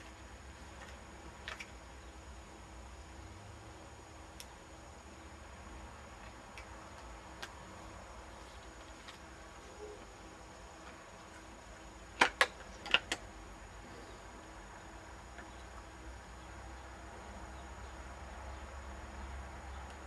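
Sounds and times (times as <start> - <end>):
faint background hum: 0.0 - 20.0.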